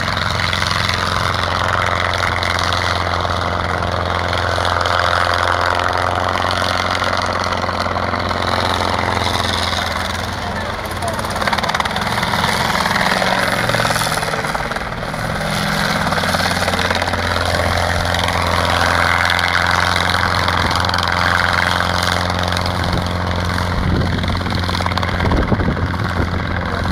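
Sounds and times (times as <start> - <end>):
helicopter hovering: 0.0 - 26.9.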